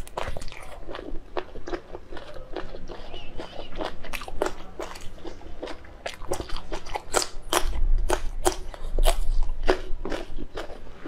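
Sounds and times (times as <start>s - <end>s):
crunching chili pepper: 0.0s - 10.8s.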